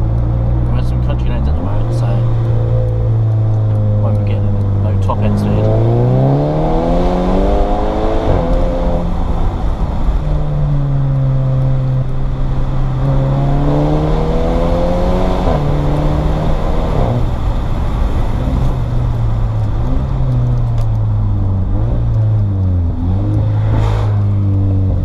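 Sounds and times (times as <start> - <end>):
car engine revving through gears: 0.0 - 25.0.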